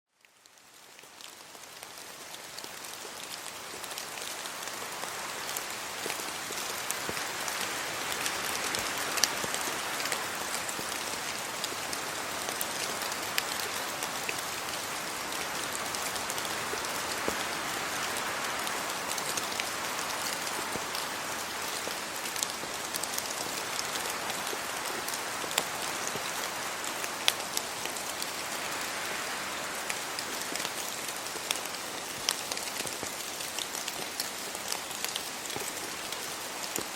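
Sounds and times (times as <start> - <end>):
rain on leaves and road: 0.1 - 36.9.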